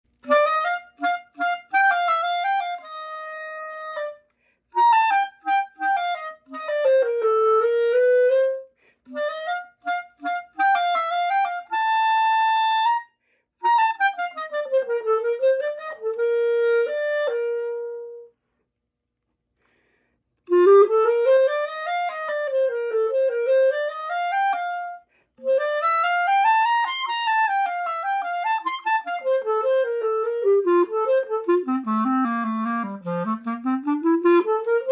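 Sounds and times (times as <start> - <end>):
solo wind instrument melody: 0.1 - 18.4, 20.4 - 34.9.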